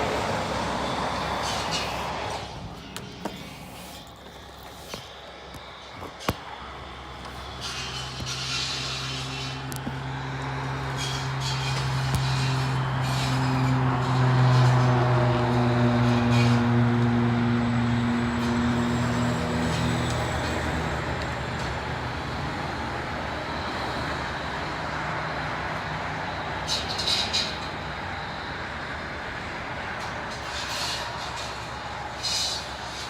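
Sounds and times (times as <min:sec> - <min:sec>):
heavy vehicle engine droning: 0:00.0 - 0:33.0
road traffic noise: 0:00.0 - 0:33.0.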